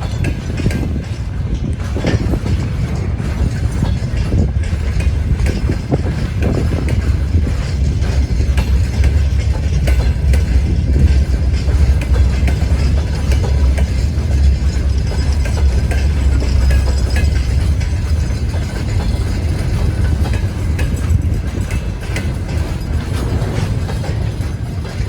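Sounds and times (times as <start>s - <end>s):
freight train rumbling past: 0.0s - 25.0s
train wheels clicking on rails: 0.0s - 25.0s.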